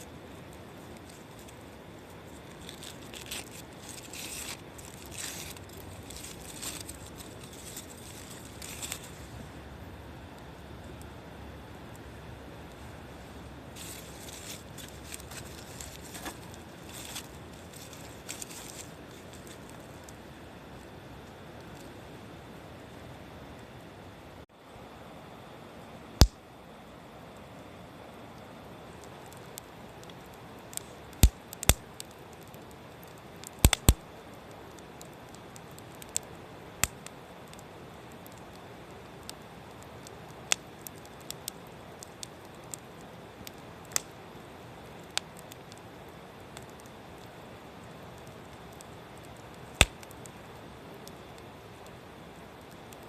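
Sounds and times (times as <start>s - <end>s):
firewood crackling and popping: 0.0s - 53.0s
low steady hiss: 0.0s - 53.0s.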